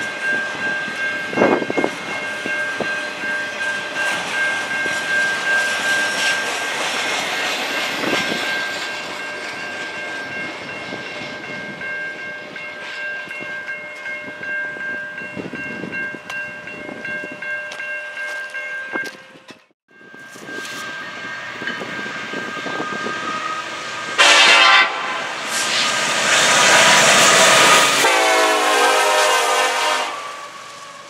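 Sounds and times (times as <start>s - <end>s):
train clanks: 0.0s - 31.0s
train wheels rumbling on rails: 0.0s - 31.0s.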